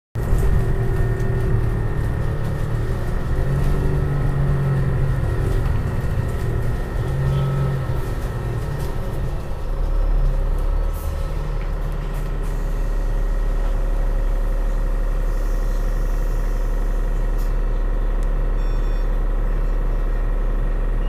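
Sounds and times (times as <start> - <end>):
bus interior low hum: 0.2 - 21.0.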